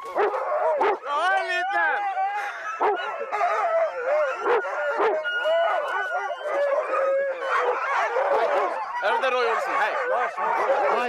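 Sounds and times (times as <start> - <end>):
sled dogs yelping and whining: 0.0 - 11.0.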